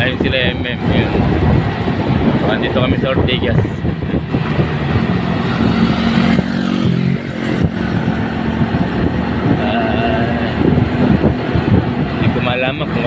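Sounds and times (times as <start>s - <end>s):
motorcycle engine running: 0.0s - 13.0s
road noise rushing: 0.0s - 13.0s.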